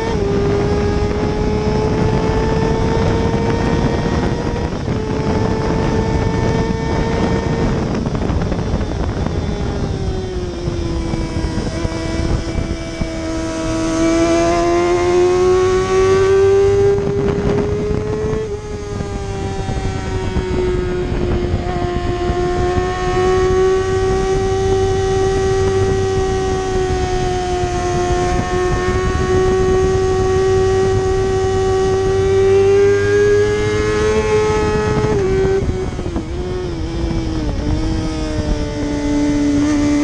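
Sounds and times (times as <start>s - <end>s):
motorcycle engine revving high: 0.0s - 40.0s
wind rush: 0.0s - 40.0s.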